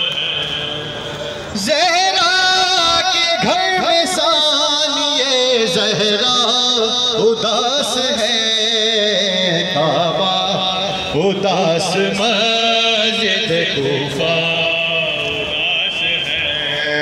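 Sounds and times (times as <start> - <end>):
person chanting a lament: 0.0 - 17.0.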